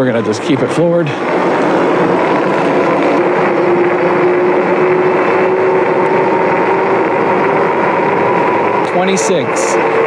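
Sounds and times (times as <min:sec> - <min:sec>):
wind rush and tyre noise: 0:00.0 - 0:10.0
electric motor whine: 0:01.2 - 0:10.0.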